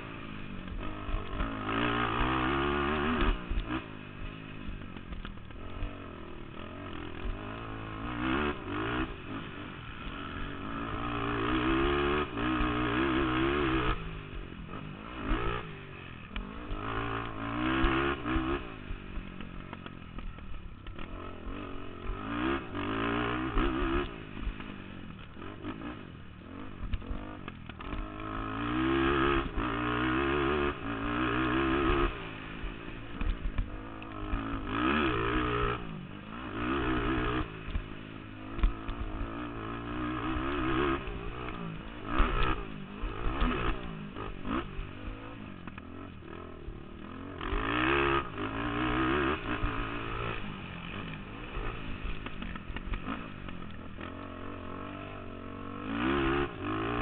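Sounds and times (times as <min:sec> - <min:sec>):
quad engine revving: 0:00.0 - 0:18.9, 0:20.9 - 0:57.0.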